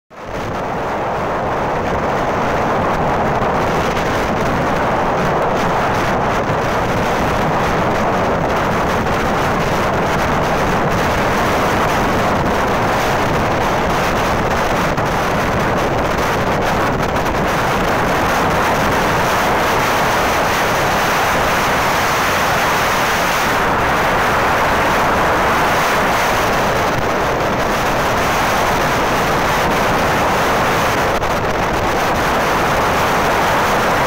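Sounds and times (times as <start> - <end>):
vehicle road and engine noise: 0.1 - 34.0
wind on microphone: 0.1 - 34.0.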